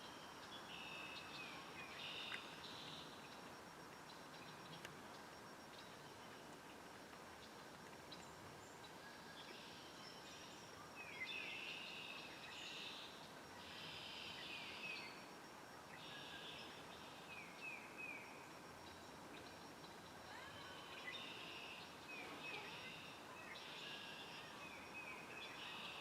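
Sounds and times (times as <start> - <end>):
songbirds chirping: 0.0 - 26.0
steady outdoor hiss: 0.0 - 26.0.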